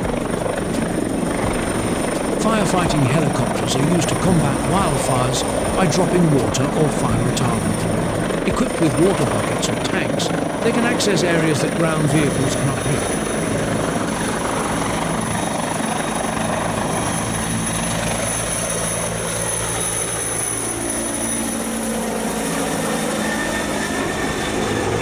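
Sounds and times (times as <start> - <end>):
helicopter rotor and engine: 0.0 - 25.0.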